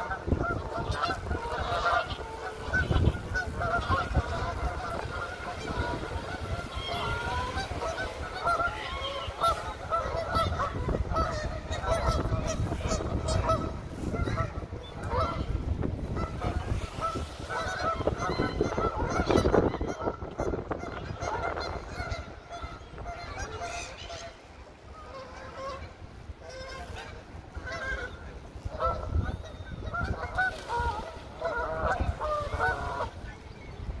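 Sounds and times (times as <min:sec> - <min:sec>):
geese honking: 0:00.0 - 0:33.9.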